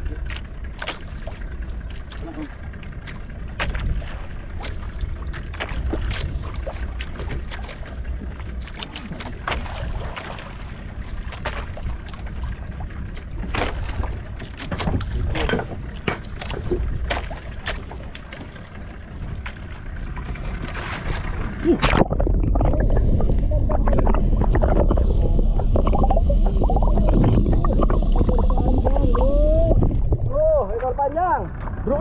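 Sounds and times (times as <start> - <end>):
water lapping against boat: 0.0 - 32.0
wind rumbling on microphone: 0.0 - 32.0.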